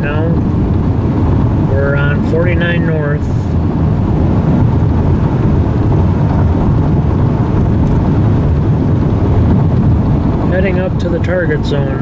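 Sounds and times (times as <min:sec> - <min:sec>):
car engine rumble: 0:00.0 - 0:12.0
road noise: 0:00.0 - 0:12.0
wind noise: 0:00.0 - 0:12.0.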